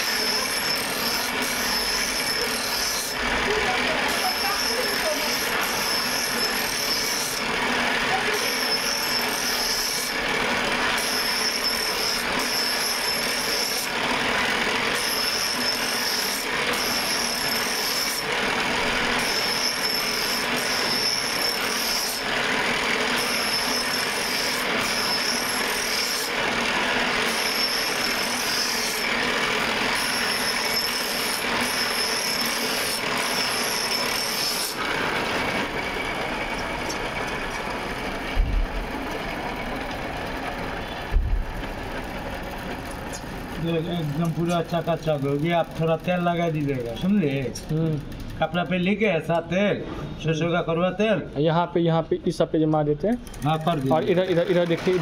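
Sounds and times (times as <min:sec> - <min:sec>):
blade scraping on grinding wheel: 0:00.0 - 0:49.0, 0:53.2 - 0:55.0.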